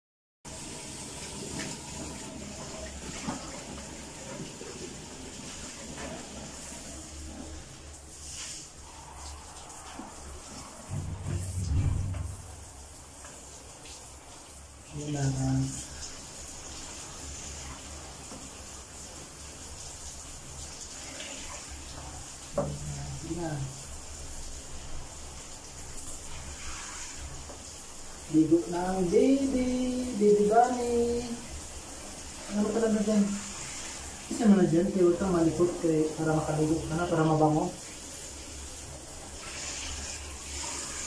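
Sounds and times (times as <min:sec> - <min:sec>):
water running from shower hose: 0:00.5 - 0:41.0.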